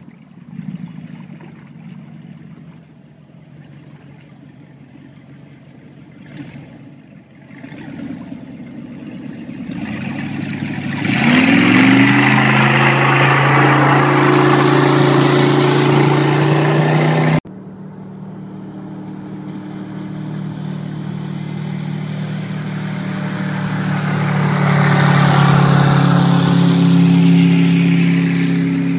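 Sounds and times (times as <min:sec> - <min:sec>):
boat passing at speed: 0:00.0 - 0:28.9
speedboat engine revving: 0:00.0 - 0:28.9.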